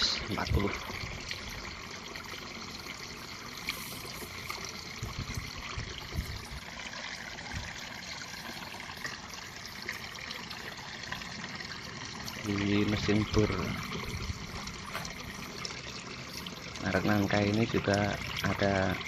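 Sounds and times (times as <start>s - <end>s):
trickling water: 0.0s - 19.0s.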